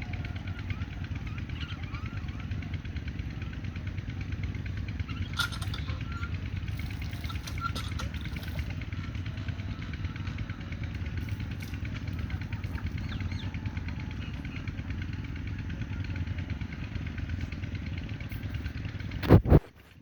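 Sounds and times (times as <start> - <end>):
birds chirping and whistling: 0.0 - 18.6.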